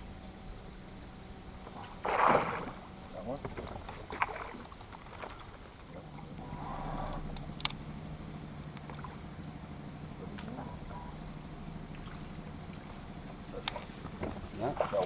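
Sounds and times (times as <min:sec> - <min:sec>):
electric trolling motor humming: 0:00.0 - 0:15.0.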